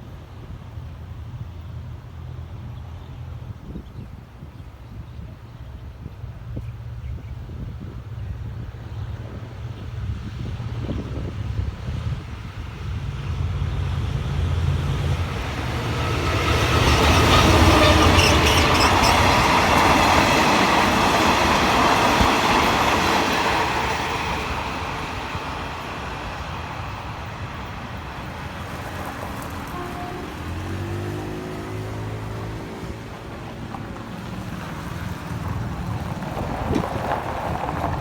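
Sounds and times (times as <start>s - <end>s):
locomotive engine hum: 0.0s - 38.0s
train wheels rumbling: 0.0s - 38.0s.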